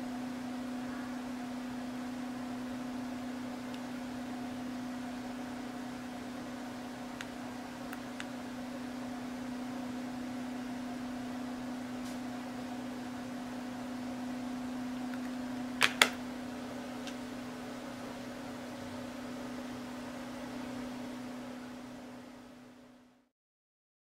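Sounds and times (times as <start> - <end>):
steady low hum: 0.0 - 23.3.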